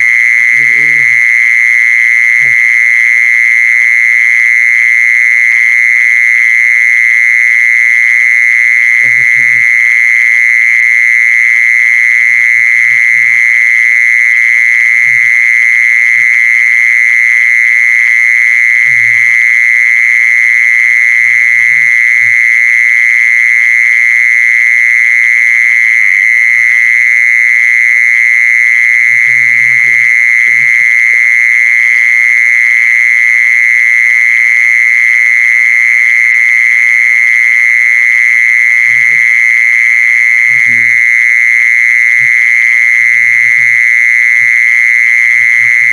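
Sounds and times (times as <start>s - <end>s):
mole cricket high trill: 0.0s - 5.9s, 6.6s - 45.9s.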